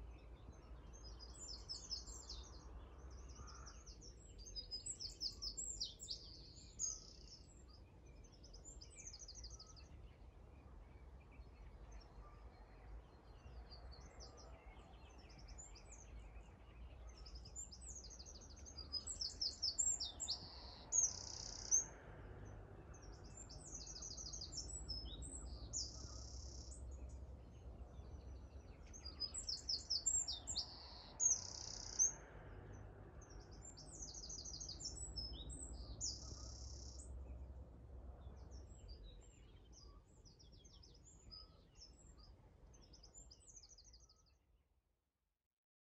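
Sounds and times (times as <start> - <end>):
faint low rumble: 0.0 - 44.2
songbirds trilling: 0.1 - 37.4.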